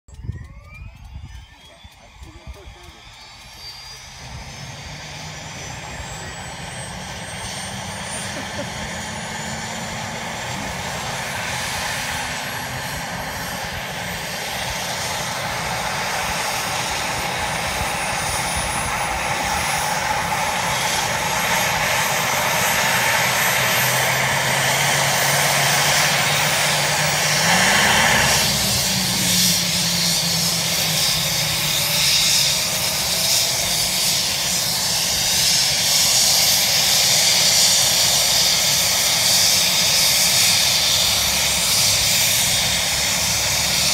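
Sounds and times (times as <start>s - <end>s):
helicopter turbine spooling up: 0.1s - 43.9s.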